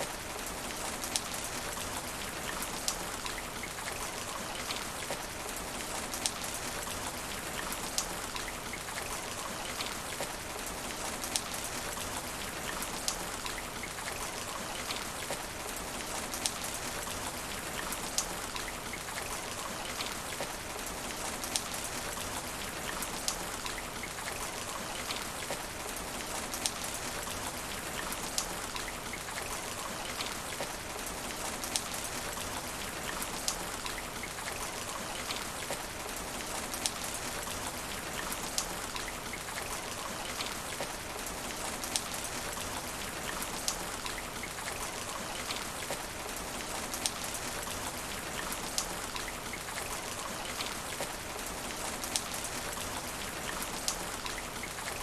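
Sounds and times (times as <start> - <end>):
rain falling on asphalt: 0.0 - 55.0.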